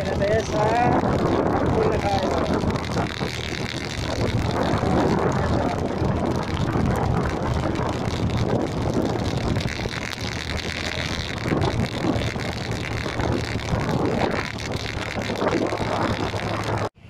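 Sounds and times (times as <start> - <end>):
vehicle road noise: 0.0 - 17.0
wind buffeting microphone: 0.0 - 17.0.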